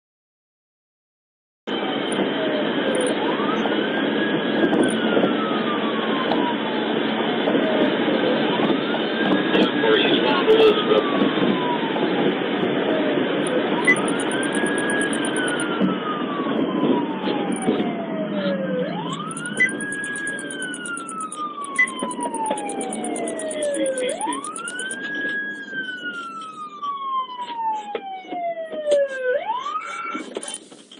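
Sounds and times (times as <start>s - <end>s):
police siren wailing: 1.7s - 30.7s.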